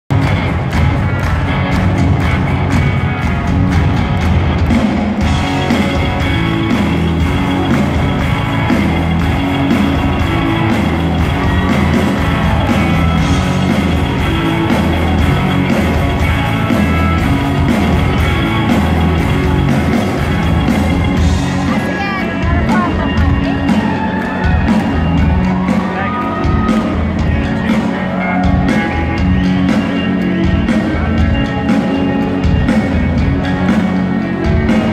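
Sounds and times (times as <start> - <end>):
drums keeping a steady beat: 0.1 - 34.9
live rock band playing: 0.1 - 34.9.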